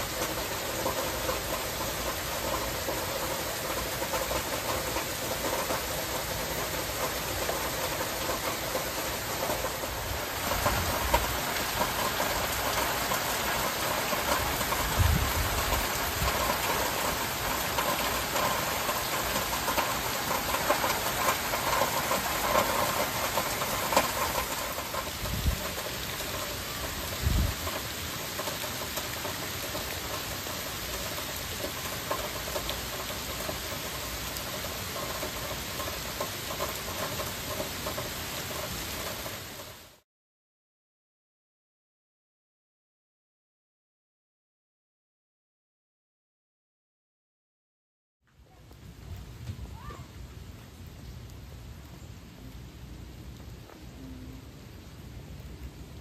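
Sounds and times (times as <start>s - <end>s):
heavy rain falling: 0.0s - 40.0s, 48.4s - 56.0s.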